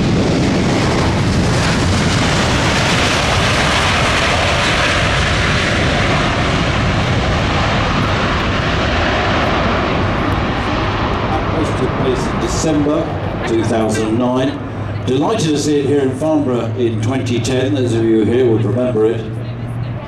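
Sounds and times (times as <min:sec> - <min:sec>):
faint engine whine: 0:00.0 - 0:20.0
turboprop aircraft engines roaring: 0:00.0 - 0:20.0.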